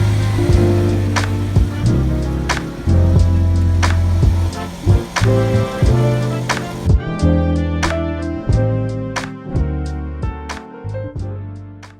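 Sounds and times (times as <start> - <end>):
held bass notes: 0.0 - 11.8.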